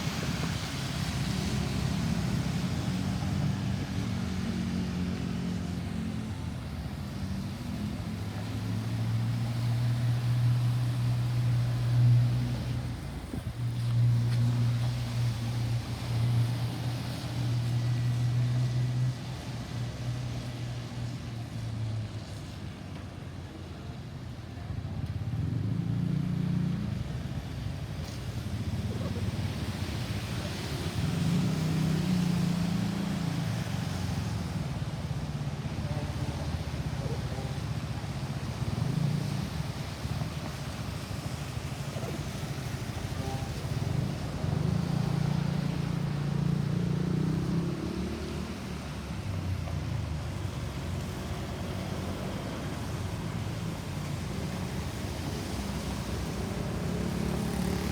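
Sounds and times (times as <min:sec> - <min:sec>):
low engine hum: 0:00.0 - 0:57.9
vehicle engines passing: 0:00.0 - 0:57.9.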